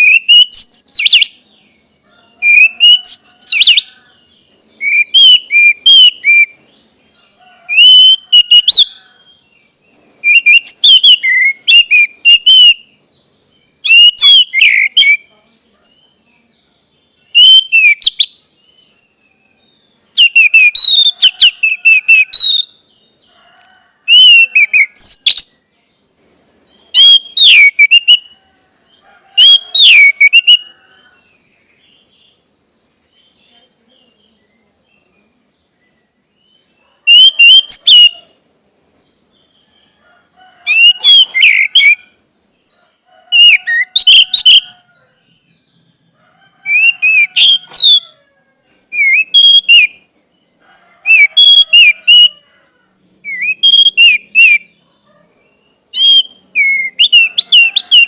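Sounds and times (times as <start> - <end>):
thrush singing whistled notes: 0.0 - 23.3, 24.0 - 25.9, 26.7 - 32.4, 34.2 - 38.4, 40.5 - 42.6, 43.3 - 46.0, 46.6 - 48.1, 48.9 - 50.1, 51.0 - 52.4, 53.2 - 58.0
steady high hiss: 0.0 - 51.0, 52.0 - 57.5.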